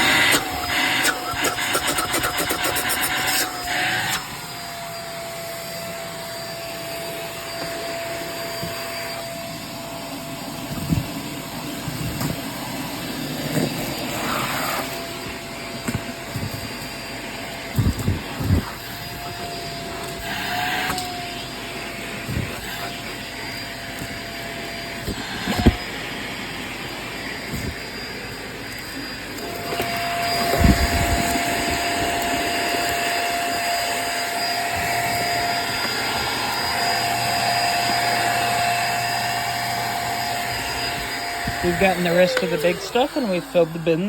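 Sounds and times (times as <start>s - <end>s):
vacuum motor whine: 0.0s - 44.0s.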